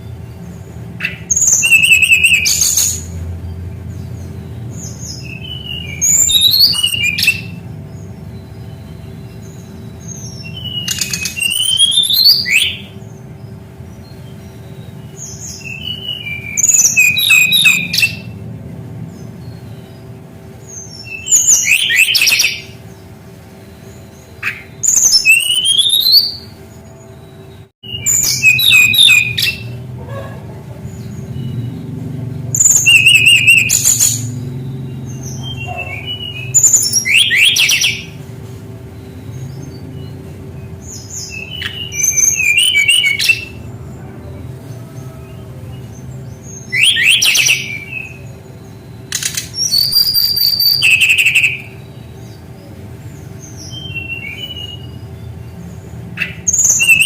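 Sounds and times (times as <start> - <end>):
bird singing whistles and trills: 0.0 - 57.0
steady low hum: 0.0 - 57.0.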